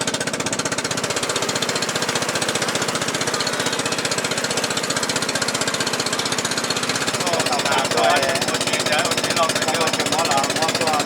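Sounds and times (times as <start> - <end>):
motor engine pulsing: 0.0 - 11.0.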